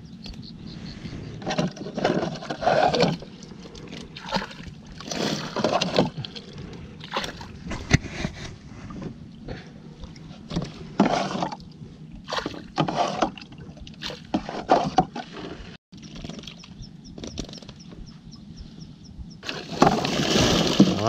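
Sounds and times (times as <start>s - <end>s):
water sloshing in boat hull: 1.0s - 18.1s, 19.4s - 21.0s.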